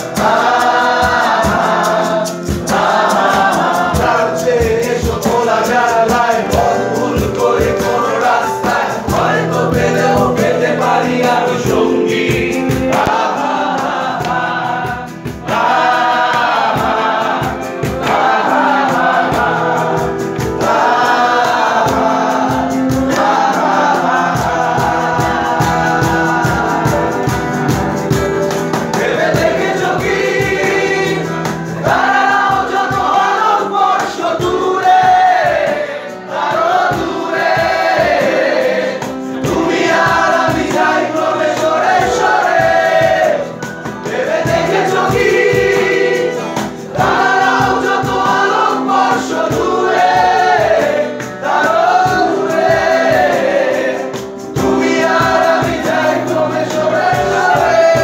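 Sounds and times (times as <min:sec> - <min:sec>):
acoustic guitar: 0:00.0 - 0:58.0
cajon beat: 0:00.0 - 0:58.0
keyboard: 0:00.0 - 0:58.0
person singing: 0:00.0 - 0:58.0.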